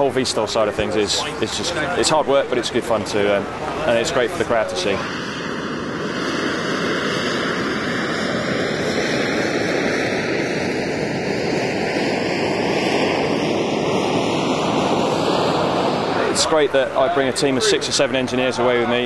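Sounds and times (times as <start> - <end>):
jet engine roaring: 0.0 - 19.0.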